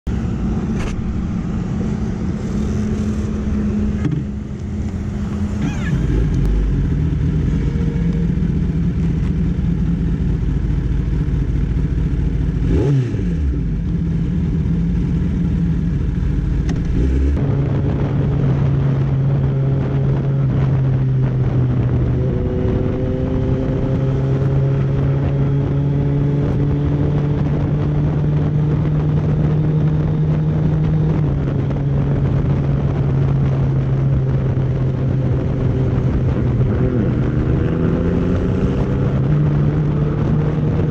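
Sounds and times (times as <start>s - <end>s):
passing vehicle: 0.0s - 40.9s
motorcycle engine running: 0.1s - 40.9s.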